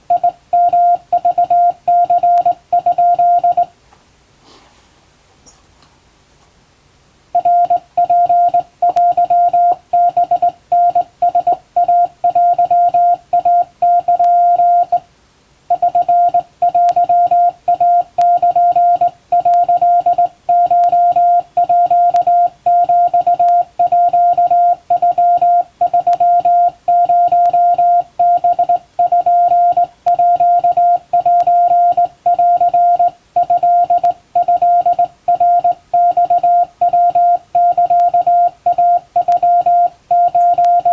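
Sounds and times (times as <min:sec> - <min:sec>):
morse code beeps: 0:00.1 - 0:03.7, 0:07.4 - 0:15.0, 0:15.7 - 0:40.9.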